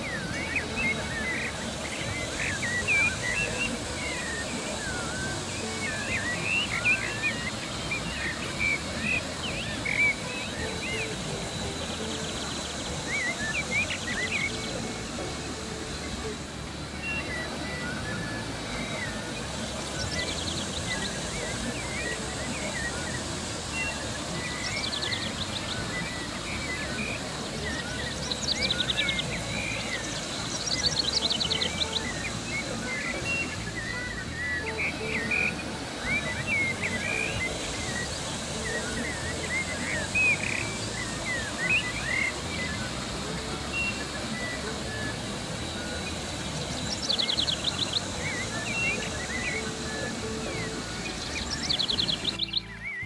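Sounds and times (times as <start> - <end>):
birds chirping: 0.0 - 53.0
rapid bird trill: 0.0 - 53.0
stream water rushing over rocks: 0.0 - 53.0.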